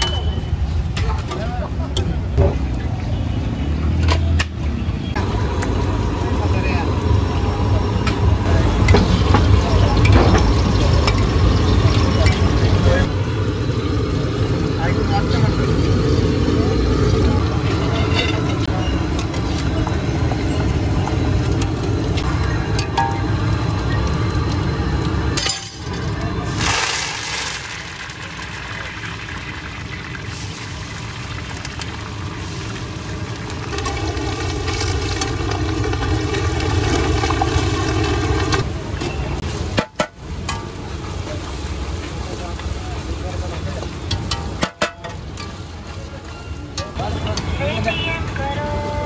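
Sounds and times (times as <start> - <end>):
food frying in hot oil: 5.2 - 47.4.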